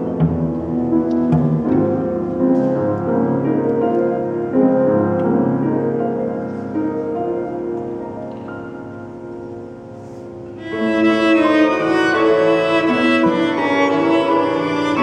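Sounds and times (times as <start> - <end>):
piano trio playing folk dance: 0.0 - 15.0.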